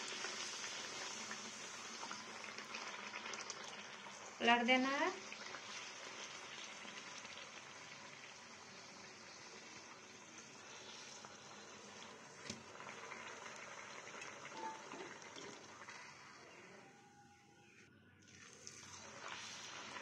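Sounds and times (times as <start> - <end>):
oil sizzling and bubbling: 0.0 - 20.0.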